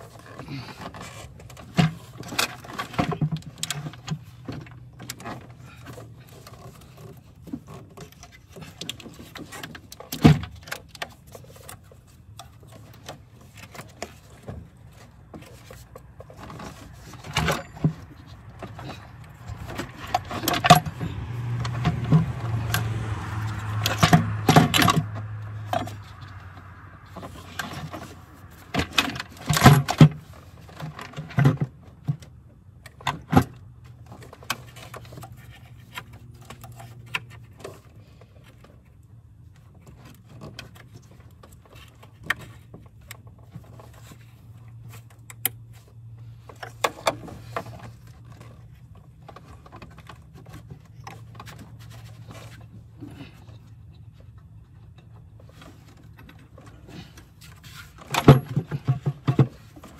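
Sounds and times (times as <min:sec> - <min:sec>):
clicks and taps of engine parts: 0:00.0 - 0:59.9.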